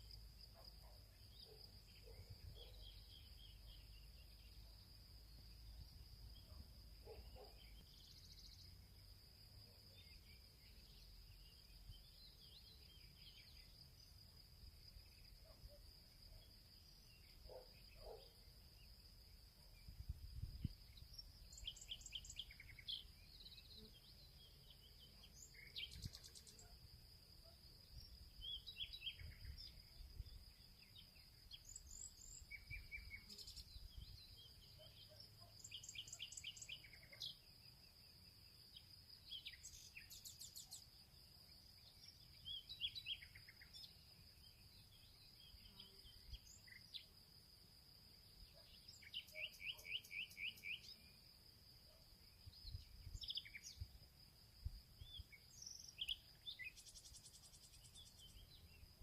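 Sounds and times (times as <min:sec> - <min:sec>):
small birds chirping and trilling: 0:00.0 - 0:54.3, 0:55.0 - 0:59.0.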